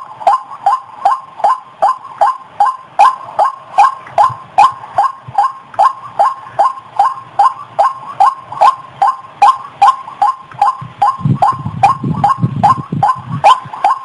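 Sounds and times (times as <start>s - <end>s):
bird calls with falling notes: 0.0s - 14.0s
low rumble: 0.0s - 14.0s.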